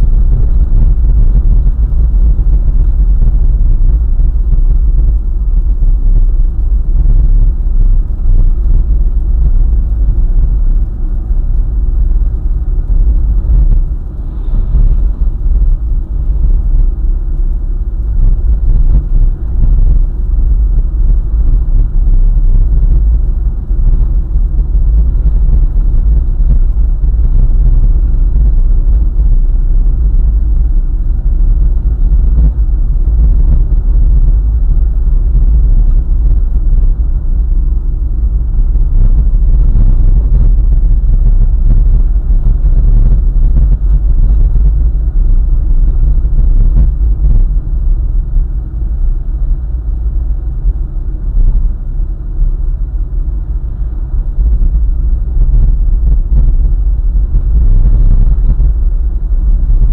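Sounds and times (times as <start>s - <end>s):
car tyres and engine rumbling: 0.0s - 59.9s.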